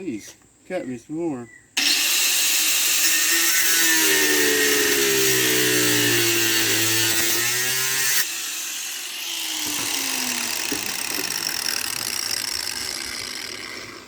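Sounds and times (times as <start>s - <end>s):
power saw cutting antler: 1.8s - 14.0s
saw blade winding down whine: 1.8s - 14.0s.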